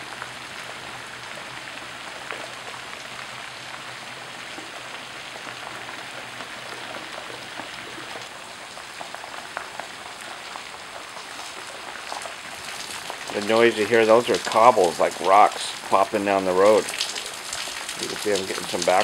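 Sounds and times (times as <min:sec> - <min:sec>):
floodwater rushing down a street: 0:00.0 - 0:19.0.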